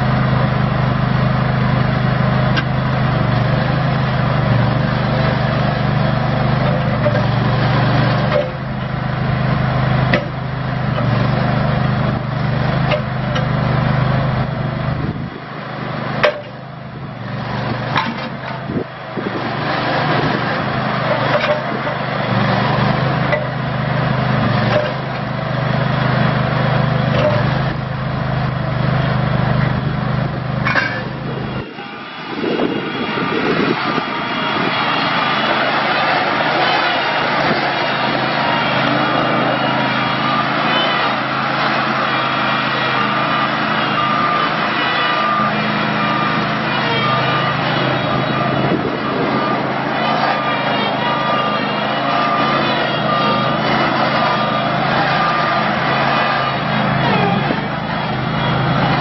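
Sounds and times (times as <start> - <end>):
backhoe loader engine running: 0.0 - 59.0.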